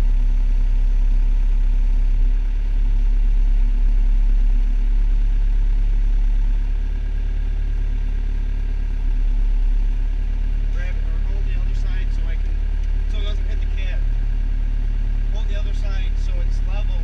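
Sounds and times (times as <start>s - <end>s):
loader engine running: 0.0s - 17.0s.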